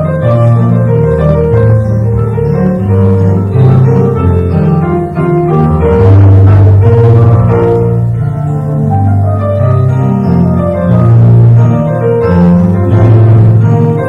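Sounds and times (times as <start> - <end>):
keyboard chords: 0.0 - 14.0.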